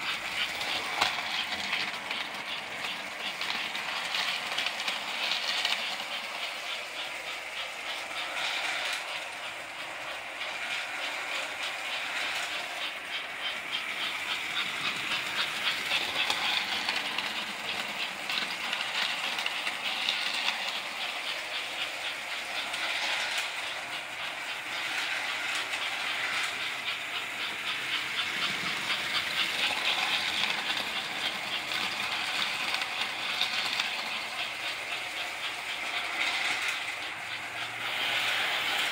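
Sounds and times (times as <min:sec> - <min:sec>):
toy train wheels clattering on track: 0:00.0 - 0:38.9.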